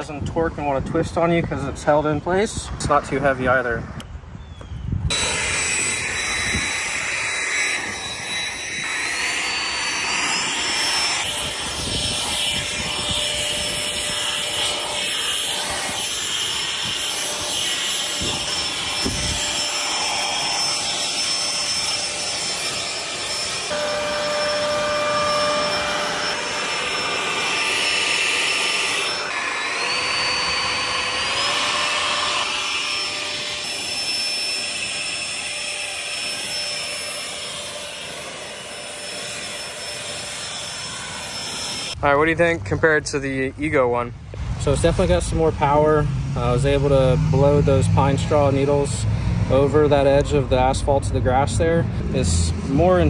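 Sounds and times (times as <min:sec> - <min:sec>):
leaf blower running: 0:05.1 - 0:50.6.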